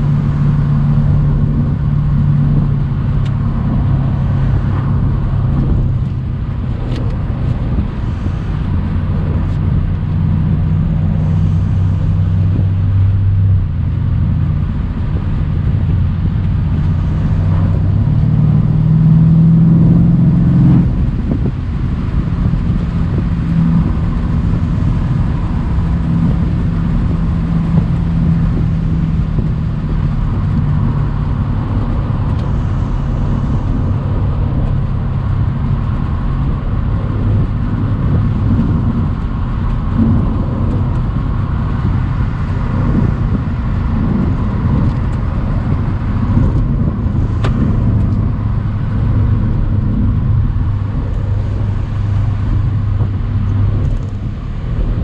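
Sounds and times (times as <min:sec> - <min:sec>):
car engine running: 0:00.0 - 0:55.0
road and wind noise: 0:00.0 - 0:55.0.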